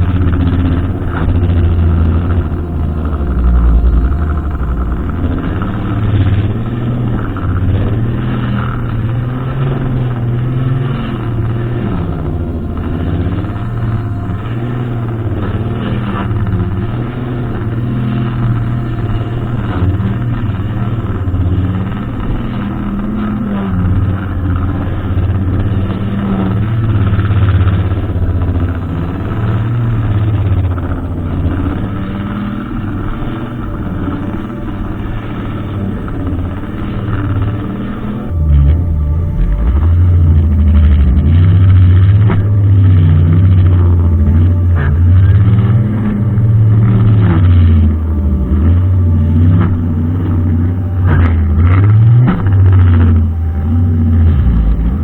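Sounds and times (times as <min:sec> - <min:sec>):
brushcutter engine running: 0:00.0 - 0:55.0.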